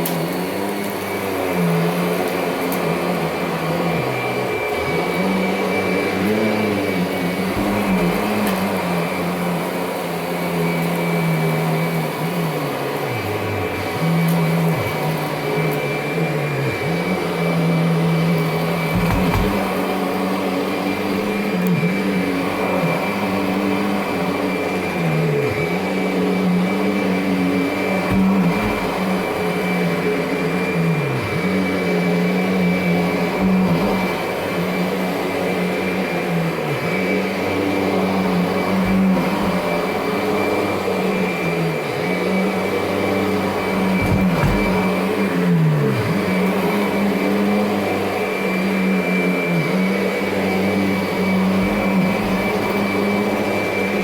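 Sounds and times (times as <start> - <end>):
upright vacuum running on carpet: 0.0 - 54.0.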